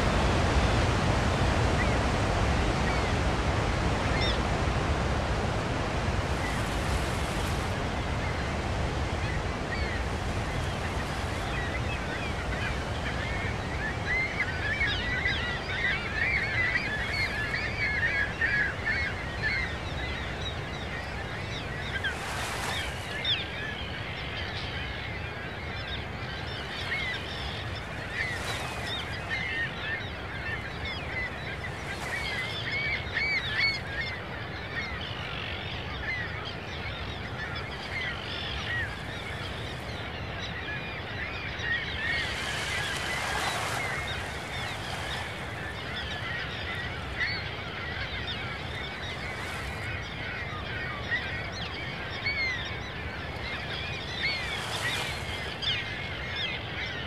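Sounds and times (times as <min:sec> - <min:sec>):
low rush of water or wind: 0:00.0 - 0:57.0.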